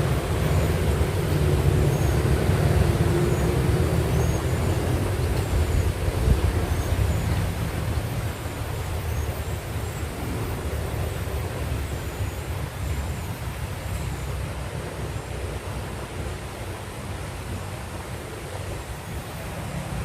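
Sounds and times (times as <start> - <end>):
wind buffeting microphone: 0.0 - 18.6
flowing river water: 0.0 - 20.0.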